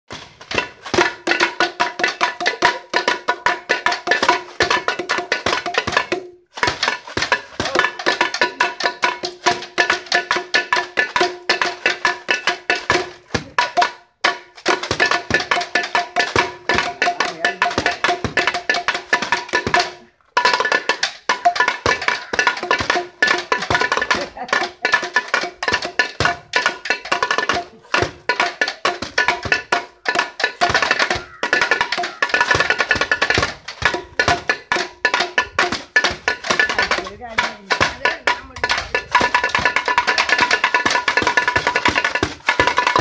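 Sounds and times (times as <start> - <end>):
percussion beaten with sticks: 0.1 - 43.0.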